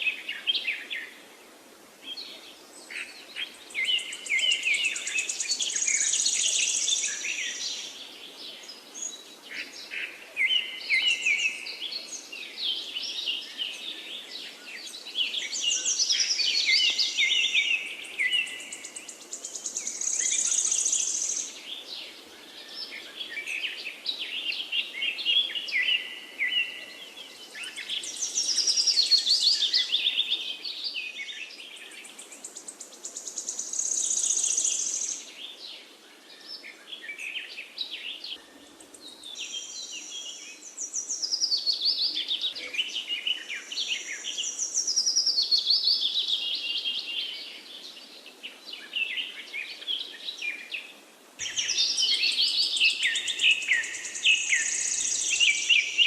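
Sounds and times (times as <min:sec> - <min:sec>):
faint steady hiss: 0:00.0 - 0:56.0
songbirds trilling and whistling: 0:02.1 - 0:56.0.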